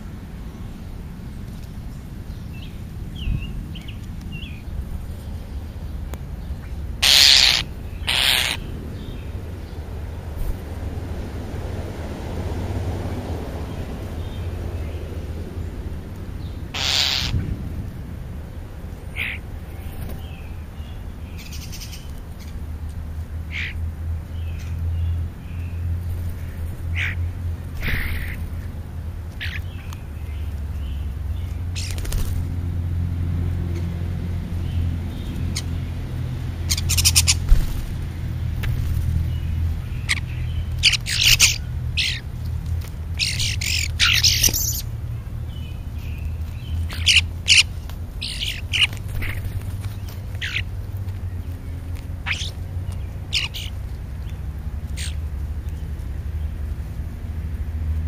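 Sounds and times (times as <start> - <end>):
steady low rumble: 0.0 - 58.0
birds squawking and chirping: 2.3 - 10.9, 13.6 - 56.0.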